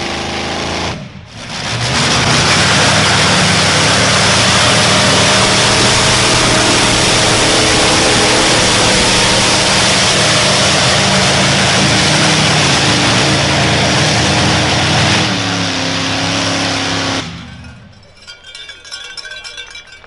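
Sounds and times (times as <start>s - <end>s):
vehicle engine running under load: 0.0s - 20.0s.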